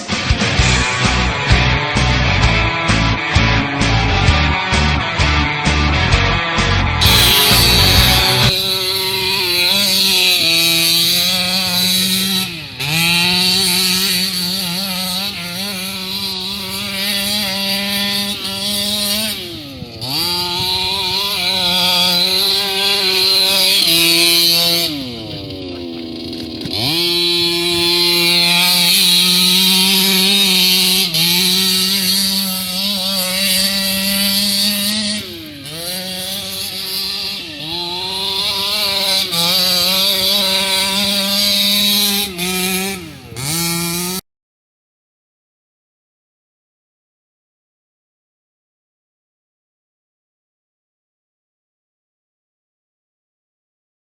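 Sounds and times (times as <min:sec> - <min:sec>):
two-stroke engine revving: 0:00.0 - 0:44.2.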